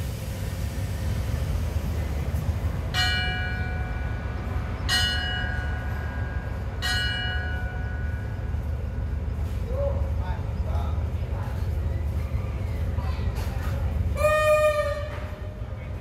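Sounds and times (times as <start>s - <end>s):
train engine low rumble: 0.0s - 16.0s.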